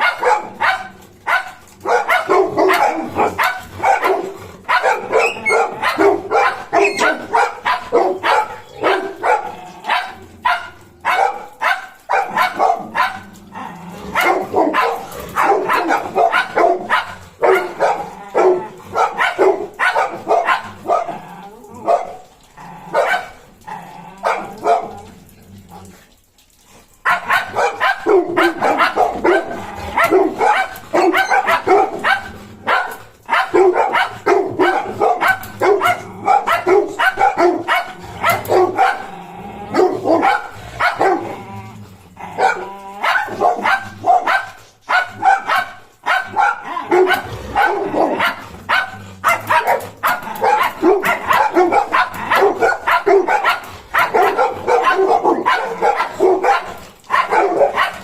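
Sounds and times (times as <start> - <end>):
dog barking and yipping: 0.0 - 25.8, 26.7 - 41.5, 42.2 - 58.0.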